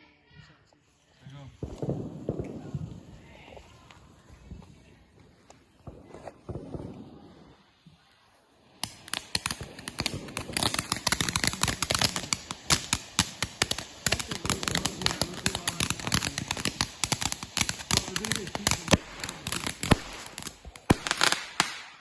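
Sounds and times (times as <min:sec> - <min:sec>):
firework crackling pops: 0:01.0 - 0:22.0.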